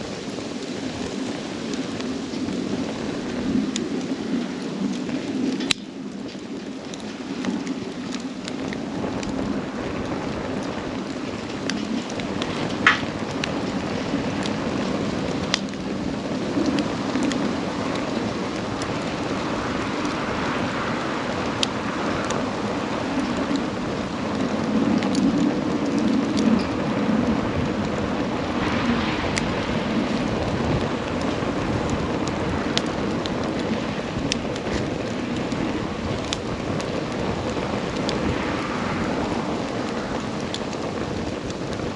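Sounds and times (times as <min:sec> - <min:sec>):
campfire flames rushing: 0:00.0 - 0:41.9
fire crackles and pops: 0:00.0 - 0:41.9.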